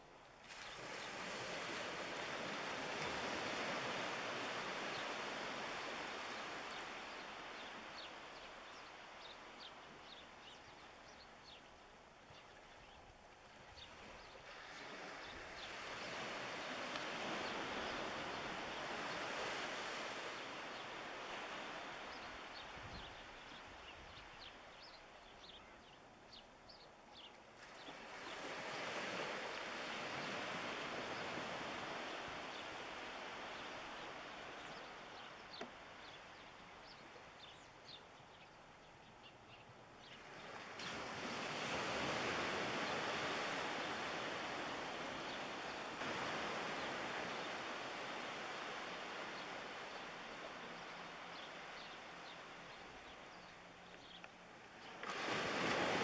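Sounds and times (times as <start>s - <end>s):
small waves washing ashore: 0.0s - 56.0s.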